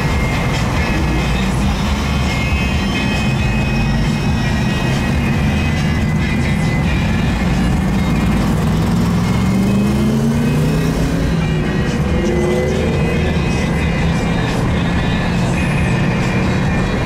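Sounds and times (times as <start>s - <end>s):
car engine accelerating: 0.0s - 17.0s
car engines in traffic: 0.0s - 17.0s
music: 0.0s - 17.0s.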